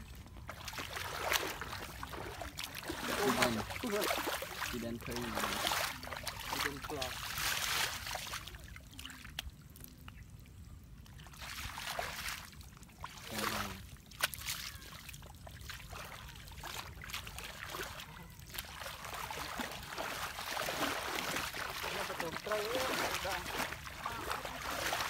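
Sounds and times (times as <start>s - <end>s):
muddy water sloshing and splashing: 0.0s - 25.0s.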